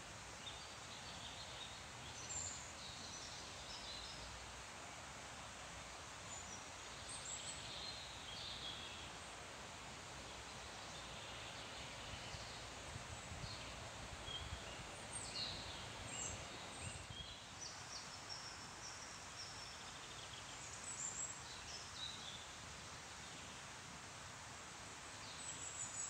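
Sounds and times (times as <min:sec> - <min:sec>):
trees rustling in wind: 0:00.0 - 0:26.0
songbirds chirping: 0:00.1 - 0:26.0.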